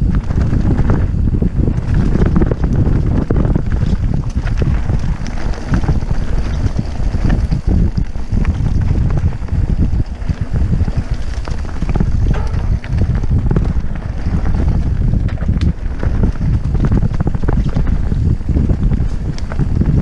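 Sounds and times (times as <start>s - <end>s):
bike rattling over rocks: 0.0s - 20.0s
mountain bike rumbling on rocky trail: 0.0s - 20.0s
wind buffeting microphone: 0.0s - 20.0s.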